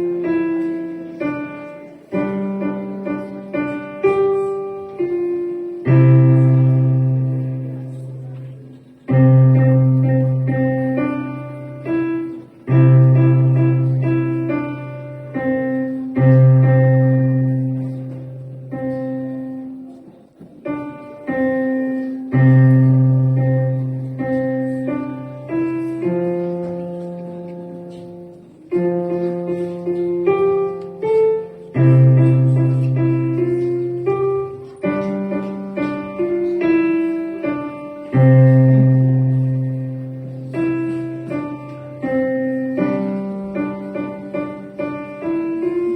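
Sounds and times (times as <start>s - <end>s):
piano melody: 0.0s - 45.9s.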